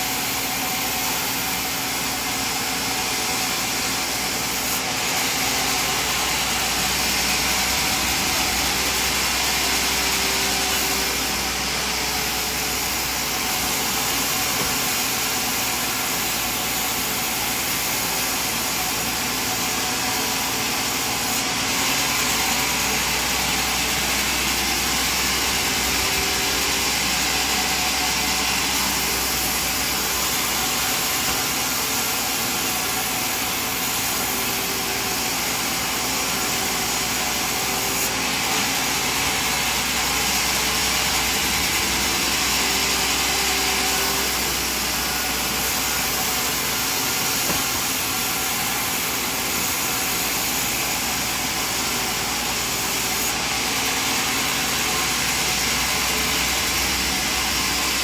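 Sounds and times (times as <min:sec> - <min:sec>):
sawmill machinery hiss and hum: 0:00.0 - 0:58.0.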